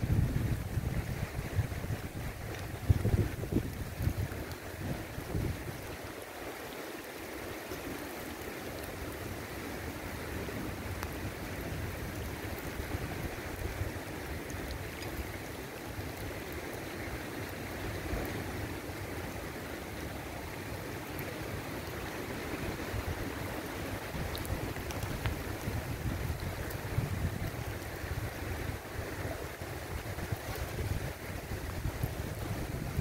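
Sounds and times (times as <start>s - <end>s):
wind rumble on microphone: 0.0s - 6.3s, 7.5s - 33.0s
river water babbling over stones: 0.0s - 33.0s.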